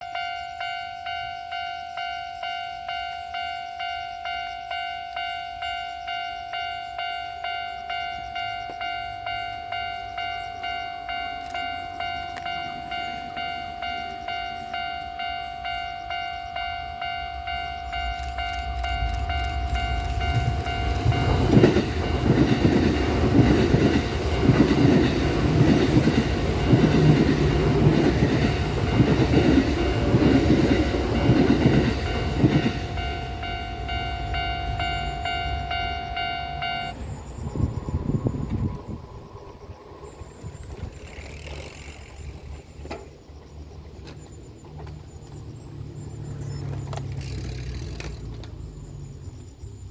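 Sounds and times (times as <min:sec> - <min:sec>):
level-crossing warning bell: 0:00.0 - 0:40.7
electric train passing: 0:00.0 - 0:49.9.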